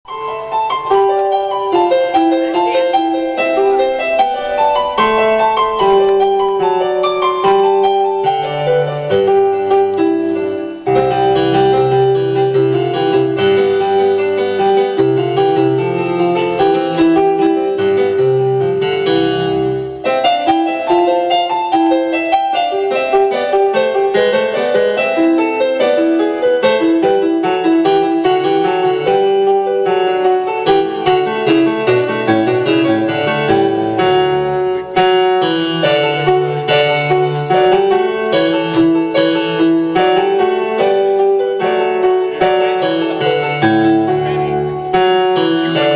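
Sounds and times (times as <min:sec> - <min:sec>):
piano music: 0:00.0 - 0:45.9.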